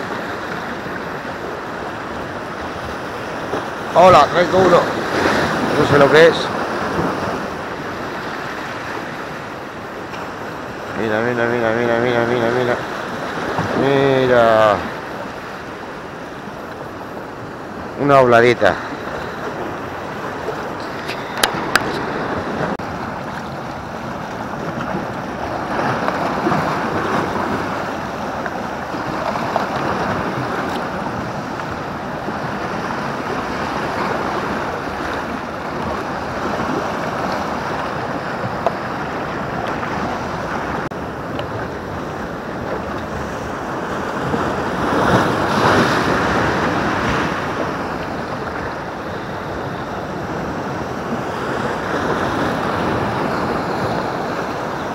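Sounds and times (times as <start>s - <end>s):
waves breaking on rocks: 0.0s - 54.9s.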